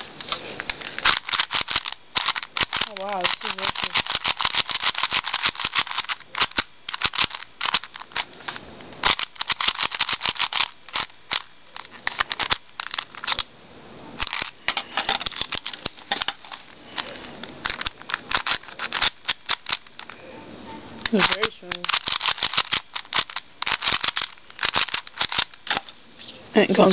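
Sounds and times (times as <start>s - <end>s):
puzzle cube clicking: 0.7s - 8.3s, 9.0s - 13.5s, 15.1s - 20.1s, 21.1s - 25.9s.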